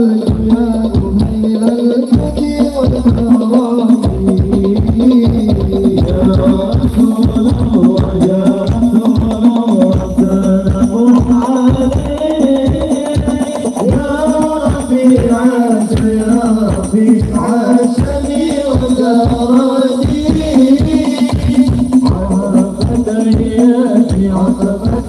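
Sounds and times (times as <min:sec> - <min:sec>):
deep bass drum beat: 0:00.0 - 0:25.0
devotional singing: 0:00.0 - 0:25.0
frame drums: 0:00.0 - 0:25.0.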